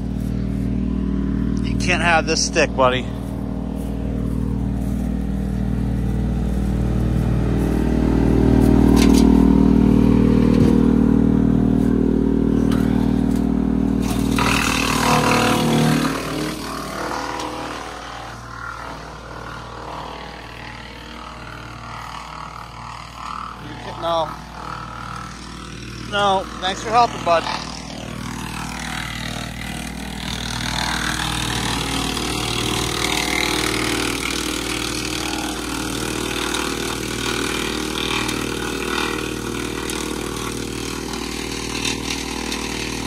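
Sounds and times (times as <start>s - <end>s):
branch going through chipper: 0.0s - 43.0s
tractor and wood chipper running: 0.0s - 43.0s.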